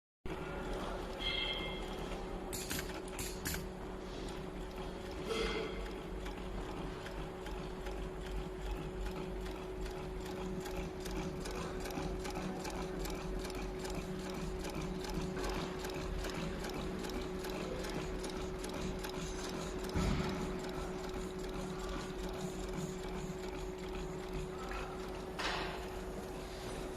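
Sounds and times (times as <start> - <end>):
sewing machine stitching clatter: 0.3 - 26.4
motor hum: 0.3 - 26.9.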